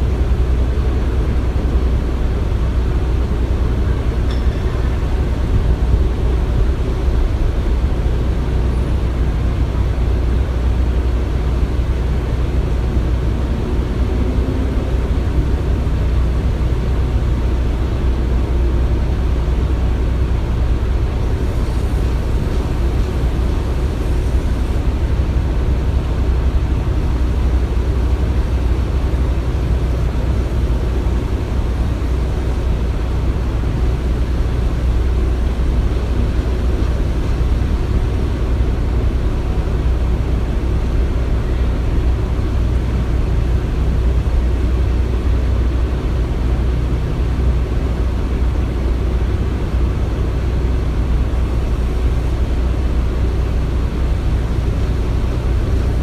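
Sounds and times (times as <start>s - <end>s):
machinery deep rumble: 0.0s - 56.0s.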